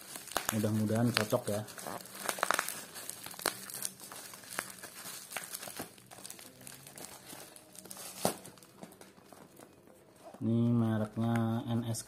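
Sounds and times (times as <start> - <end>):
plastic packaging crinkling and tearing: 0.0 - 10.4.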